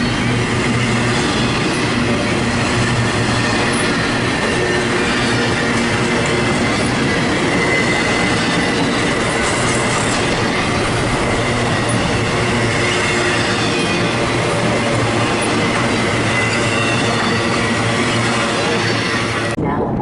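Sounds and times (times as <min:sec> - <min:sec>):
high wheel squeal: 0:00.0 - 0:19.6
train wheels rumbling on rails: 0:00.0 - 0:20.0.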